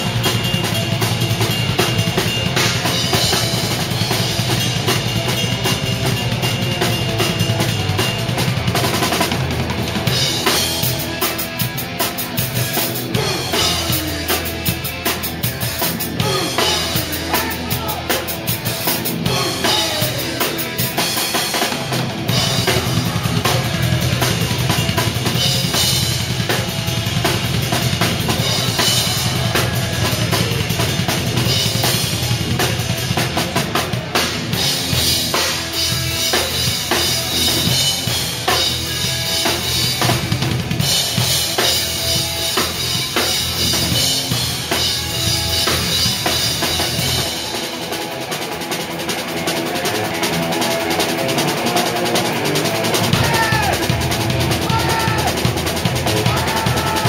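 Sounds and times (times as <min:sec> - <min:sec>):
drum kit played hard: 0:00.0 - 0:57.0.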